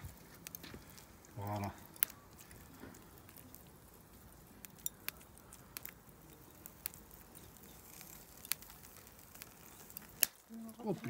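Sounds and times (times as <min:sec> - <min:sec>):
charcoal grill crackling: 0:00.0 - 0:11.0
low hiss of grilling: 0:00.0 - 0:11.0.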